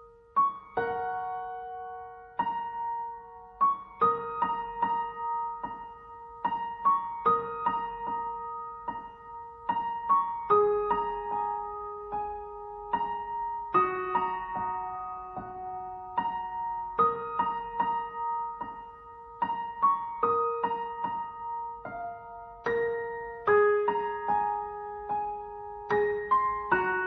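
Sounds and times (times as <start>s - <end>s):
slow solo piano melody: 0.0s - 27.0s.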